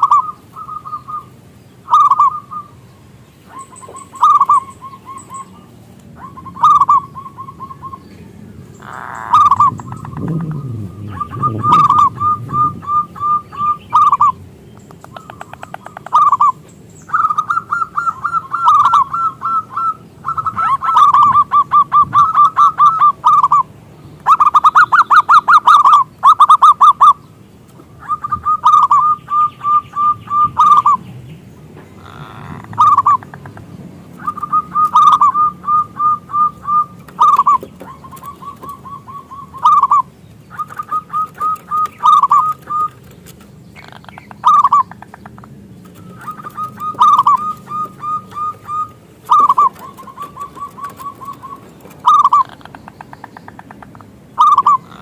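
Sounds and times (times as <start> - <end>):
dove cooing: 0.0 - 27.2, 27.8 - 31.1, 31.9 - 55.0.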